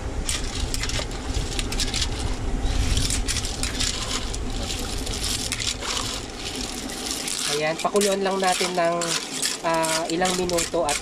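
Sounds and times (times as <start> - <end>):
ladle stirring clams in a pot: 0.2 - 11.0.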